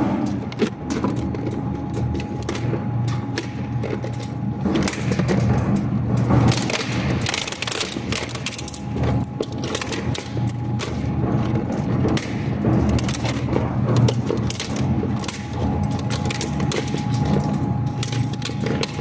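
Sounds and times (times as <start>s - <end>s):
plastic cracking and snapping: 0.2s - 19.0s.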